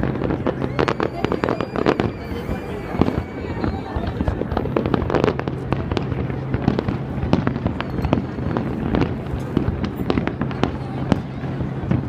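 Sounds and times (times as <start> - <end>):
continuous rumble: 0.0 - 12.0
fireworks bangs and crackles: 0.0 - 12.0.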